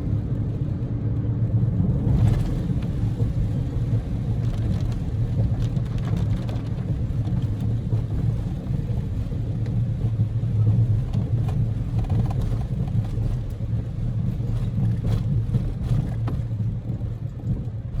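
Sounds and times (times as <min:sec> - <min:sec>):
car engine and tyre drone: 0:00.0 - 0:18.0.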